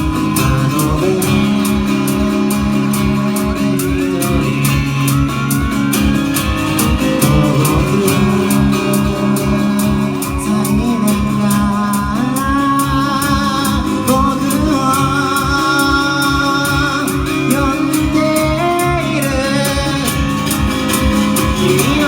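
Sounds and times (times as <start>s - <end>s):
guitar: 0.0s - 22.0s
person singing: 0.0s - 22.0s
steady drum beat: 0.0s - 22.0s.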